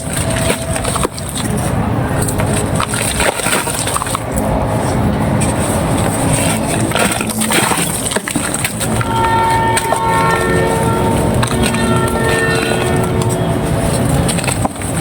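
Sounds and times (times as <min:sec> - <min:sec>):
steady tones: 0:00.0 - 0:15.0.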